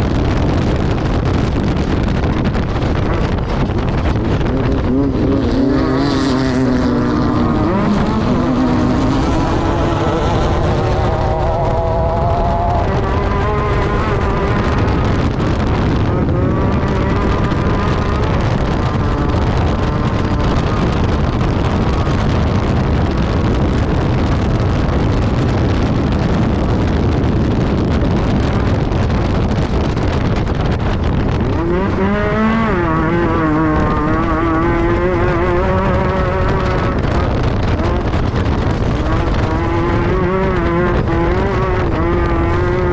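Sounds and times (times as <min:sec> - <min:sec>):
buggy engine revving: 0:00.0 - 0:42.9
loud rush of noise: 0:00.0 - 0:42.9.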